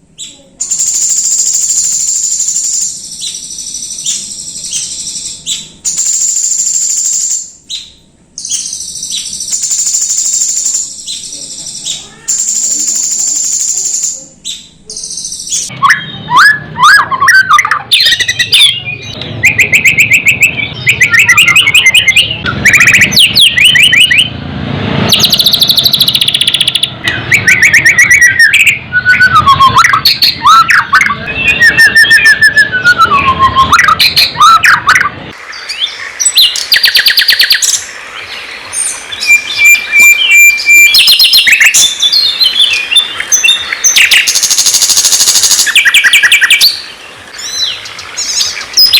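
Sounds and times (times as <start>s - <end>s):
low background noise: 0.0s - 48.9s
songbird song: 0.0s - 48.9s.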